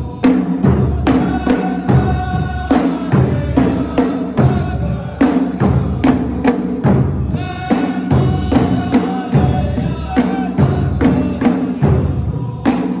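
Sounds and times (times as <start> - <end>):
drums beating a steady rhythm: 0.0 - 13.0
voices singing long notes: 0.0 - 13.0.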